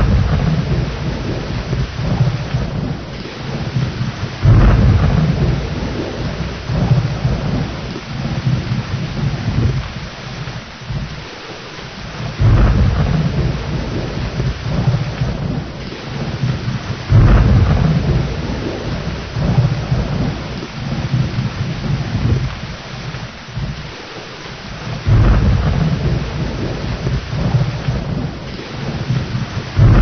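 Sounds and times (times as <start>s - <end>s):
rolling thunder: 0.0s - 24.0s, 24.6s - 30.0s
heavy rain: 0.0s - 30.0s
thunderclaps: 0.0s - 30.0s.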